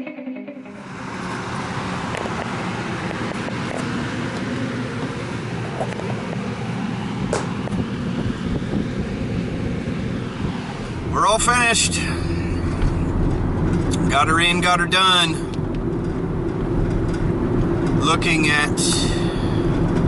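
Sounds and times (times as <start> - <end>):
road and engine rumble: 0.8 - 20.0.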